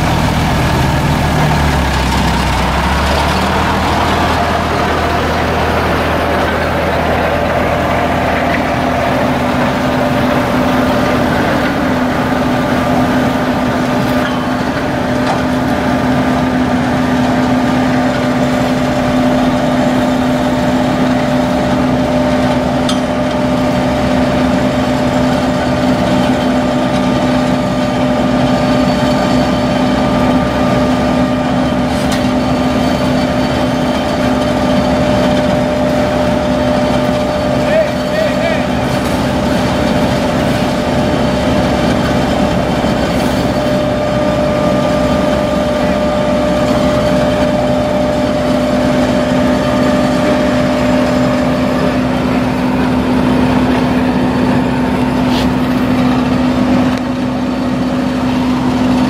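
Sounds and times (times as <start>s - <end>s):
diesel engine droning with whine: 0.0s - 59.0s.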